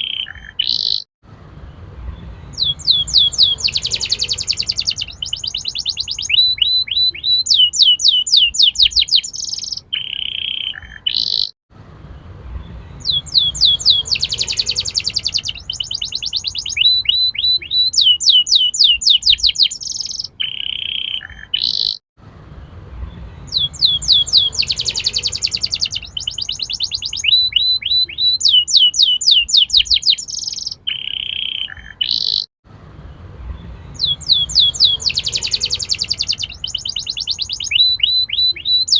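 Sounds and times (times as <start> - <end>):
canary singing trills: 0.0 - 1.1, 2.1 - 11.6, 12.6 - 22.0, 23.1 - 32.5, 33.6 - 38.9.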